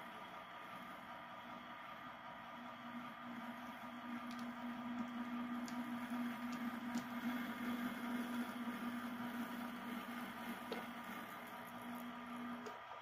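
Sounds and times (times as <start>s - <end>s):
model locomotive humming: 0.0s - 13.0s.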